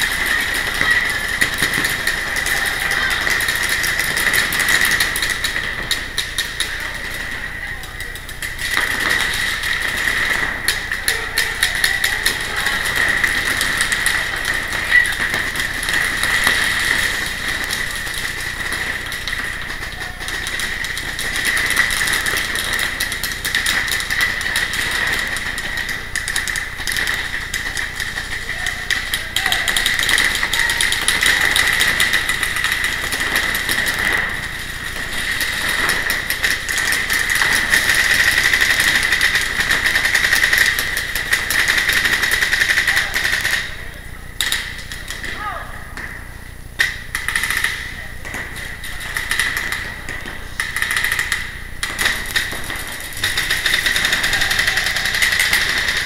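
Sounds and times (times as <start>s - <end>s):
paintball markers firing rapidly: 0.0s - 56.0s.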